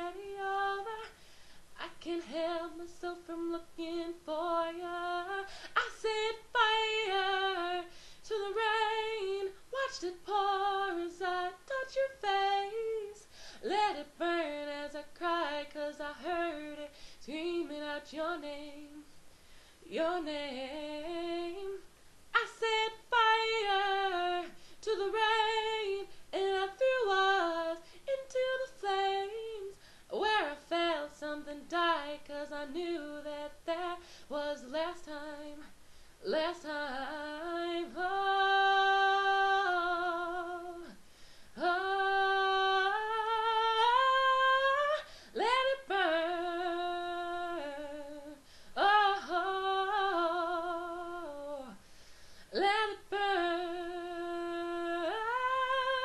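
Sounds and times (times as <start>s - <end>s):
woman singing unaccompanied: 0.0s - 19.2s, 19.8s - 51.8s, 52.5s - 56.0s.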